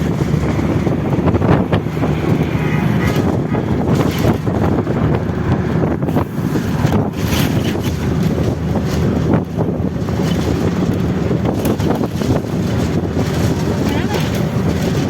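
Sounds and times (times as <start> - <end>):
vehicle rumble on highway: 0.0 - 15.0
wind buffeting microphone: 0.0 - 15.0.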